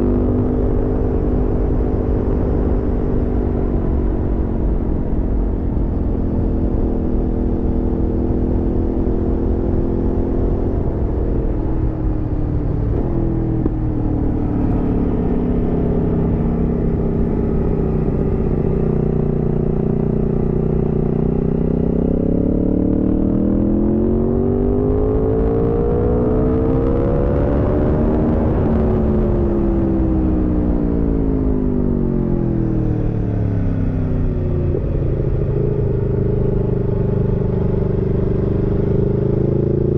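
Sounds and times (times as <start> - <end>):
motorcycle engine running: 0.0 - 29.3, 30.5 - 39.9.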